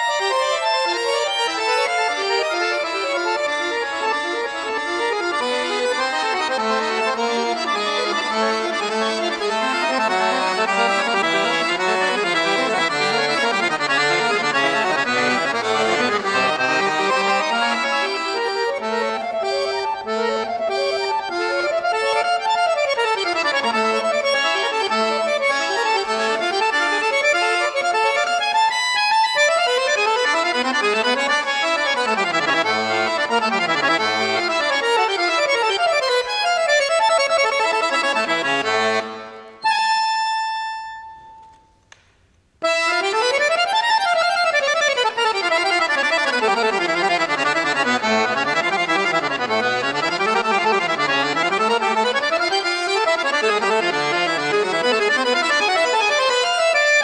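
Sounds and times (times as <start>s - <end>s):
button accordion fast scale runs: 0.0s - 41.3s, 42.6s - 57.0s.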